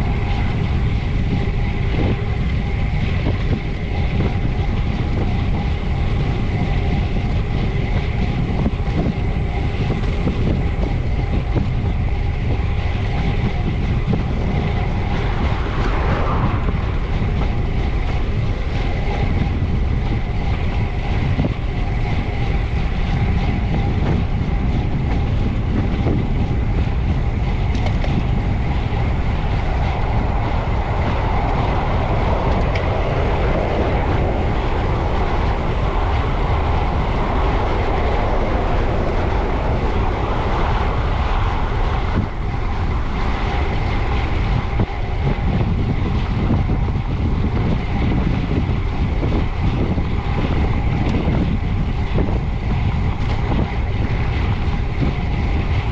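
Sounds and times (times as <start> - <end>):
road and tyre rumble: 0.0 - 55.9
wind buffeting microphone: 0.0 - 55.9.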